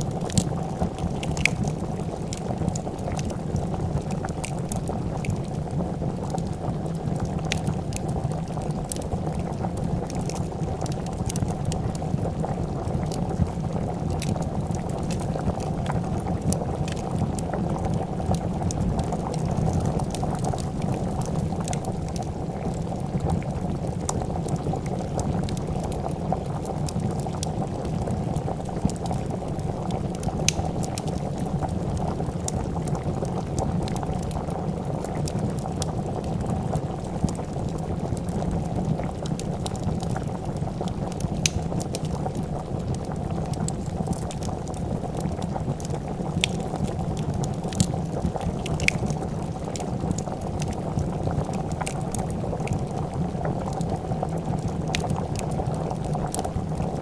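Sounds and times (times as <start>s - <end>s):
soup bubbling in a pot: 0.0s - 57.0s
wood fire crackling: 0.0s - 57.0s.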